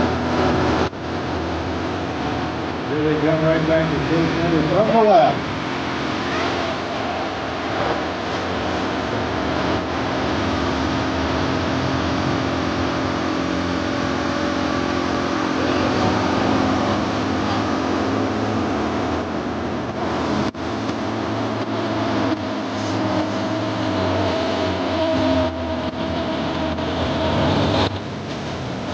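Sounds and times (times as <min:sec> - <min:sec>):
propeller aircraft engines droning: 0:00.0 - 0:28.9.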